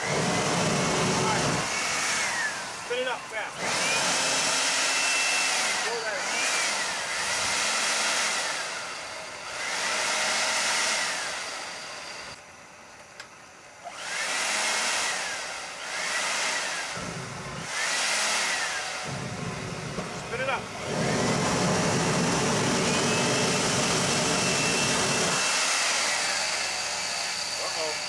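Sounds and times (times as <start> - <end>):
turbojet rushing air and whine: 0.0 - 12.9, 13.7 - 28.0.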